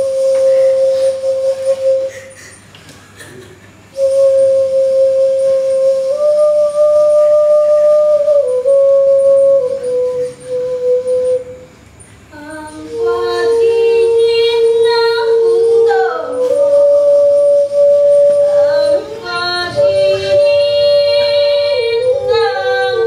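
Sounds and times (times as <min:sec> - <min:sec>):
slow music of long notes: 0:03.9 - 0:23.0.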